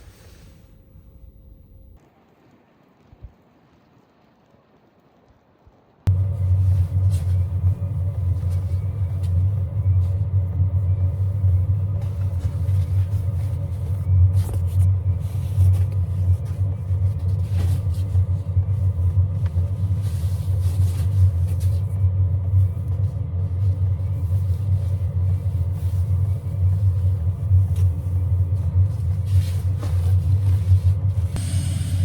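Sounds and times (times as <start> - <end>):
van rumbling on road: 6.1 - 32.0.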